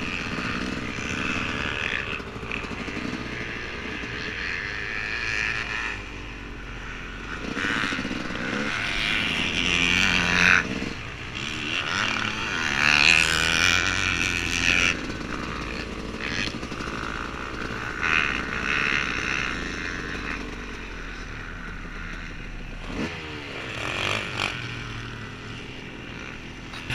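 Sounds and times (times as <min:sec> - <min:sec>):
motocross engine revving: 0:00.0 - 0:26.9.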